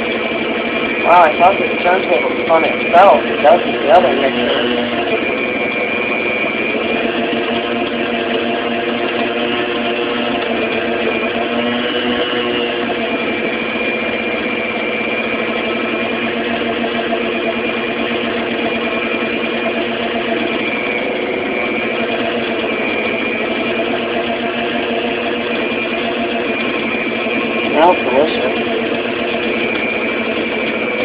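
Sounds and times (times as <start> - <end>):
stand mixer churning dough: 0.0 - 31.0.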